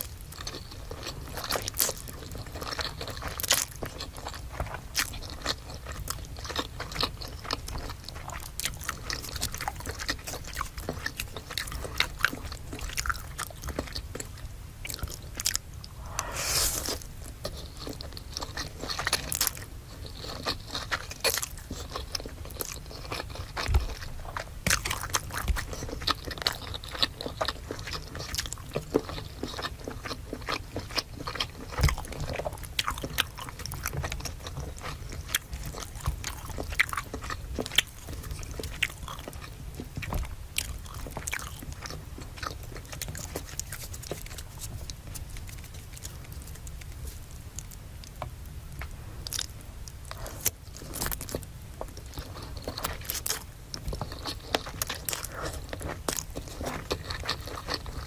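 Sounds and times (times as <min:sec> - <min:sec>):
crunchy food chewing: 0:00.0 - 0:58.0.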